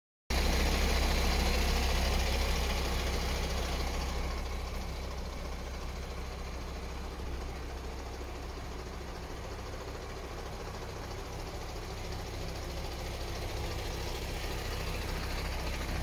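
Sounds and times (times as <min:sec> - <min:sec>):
truck diesel engine idling: 0:00.3 - 0:16.0.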